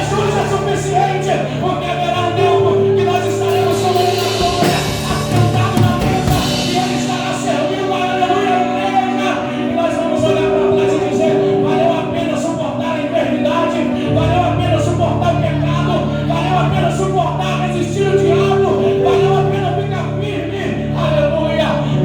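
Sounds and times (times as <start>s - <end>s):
gospel band playing: 0.0s - 22.0s
people singing: 0.0s - 22.0s.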